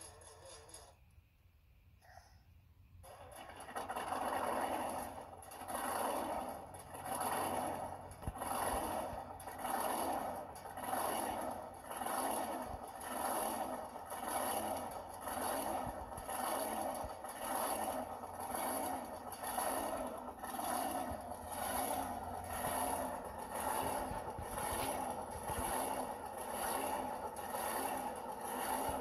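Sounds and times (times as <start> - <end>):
diesel truck engine running: 2.9 - 29.0.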